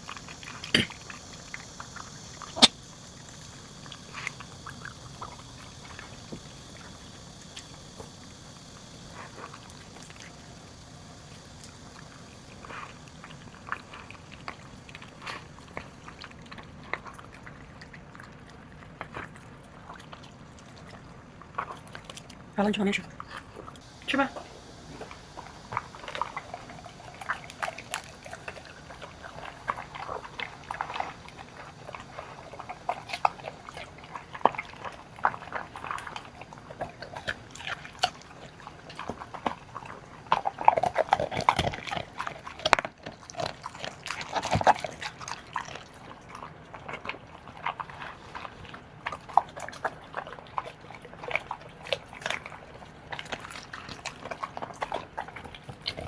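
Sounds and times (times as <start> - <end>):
dogs chewing: 0.0 - 56.0
wet lapping: 0.0 - 56.0.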